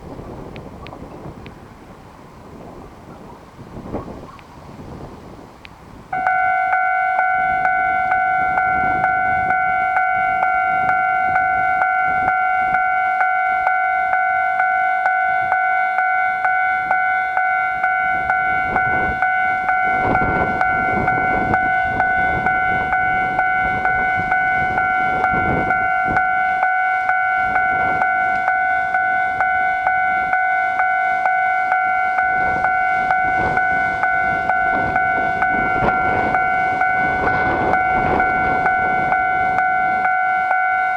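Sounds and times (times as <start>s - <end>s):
level-crossing alarm bell: 6.1s - 40.9s.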